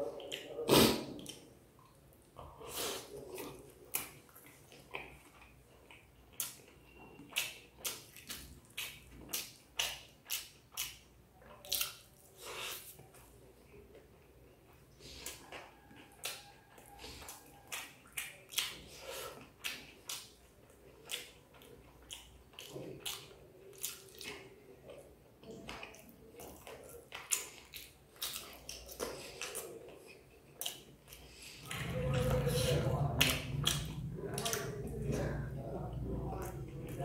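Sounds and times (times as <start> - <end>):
wet chewing and lip smacks: 0.2 - 0.6, 1.2 - 35.3.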